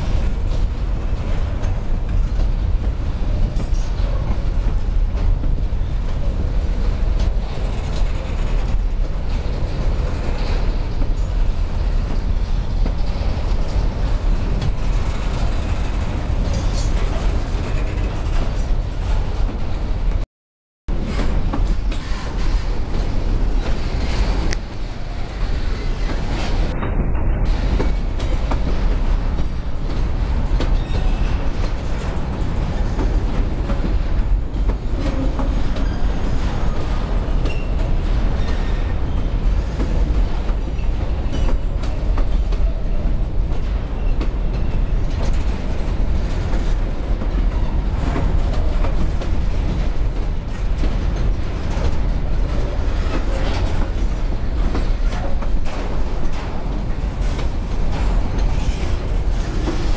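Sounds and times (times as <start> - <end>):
steel wheels clattering over rail joints: 0.0 - 20.1, 20.9 - 59.9
train rumble: 0.0 - 20.2, 20.9 - 59.9.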